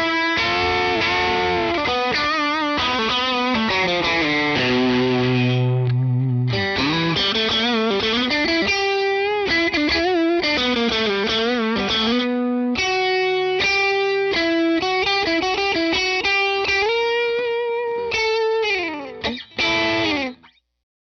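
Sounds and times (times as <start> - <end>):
electric guitar lead line: 0.0 - 20.5.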